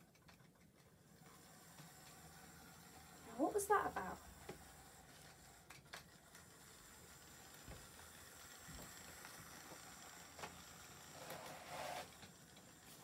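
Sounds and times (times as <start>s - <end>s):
toy train motor and wheels rushing: 0.0s - 13.0s.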